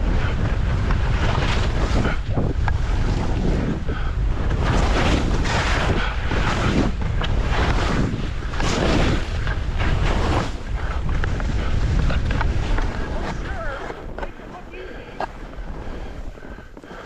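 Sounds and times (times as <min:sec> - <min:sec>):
wind rumbling on microphone: 0:00.0 - 0:17.0
skis hissing through snow: 0:00.1 - 0:17.0.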